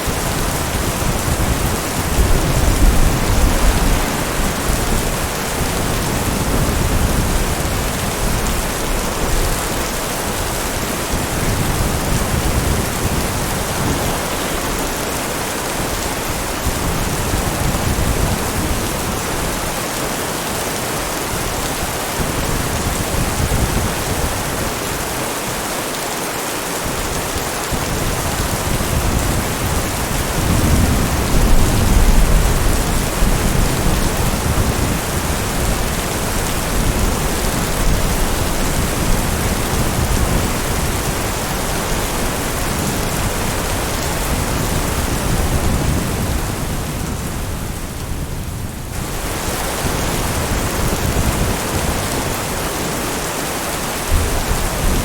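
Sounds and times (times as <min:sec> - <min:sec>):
heavy rain: 0:00.0 - 0:55.0
low rumble of thunder: 0:00.1 - 0:19.7, 0:27.8 - 0:52.5.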